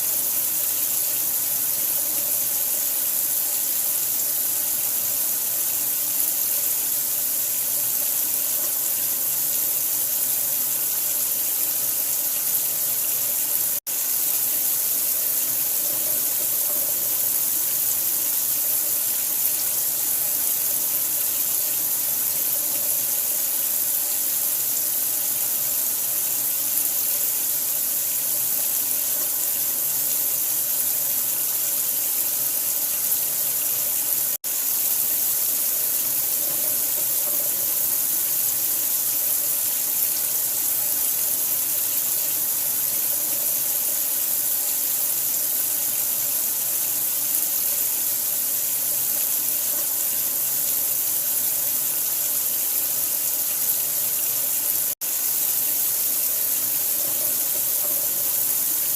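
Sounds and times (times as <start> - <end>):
running water pouring: 0.0 - 58.9.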